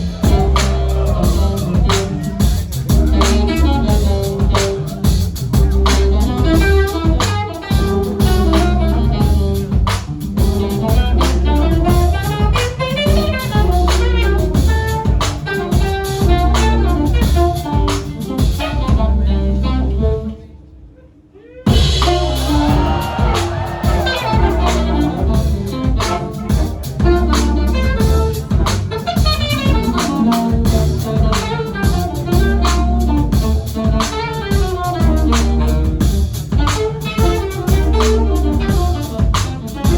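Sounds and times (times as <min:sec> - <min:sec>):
jazz band playing: 0:00.0 - 0:20.5, 0:21.7 - 0:39.9
saxophone: 0:00.0 - 0:39.9.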